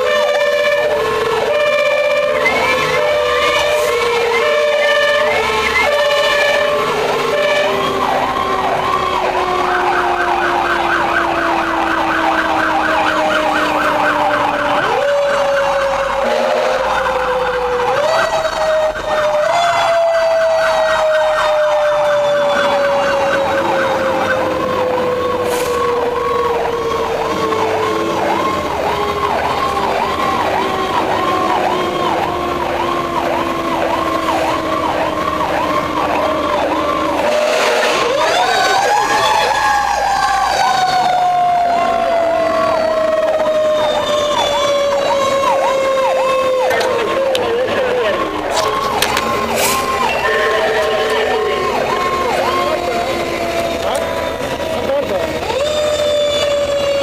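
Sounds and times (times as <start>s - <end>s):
fire truck siren wailing: 0.0s - 57.0s
lower siren tone: 0.0s - 57.0s.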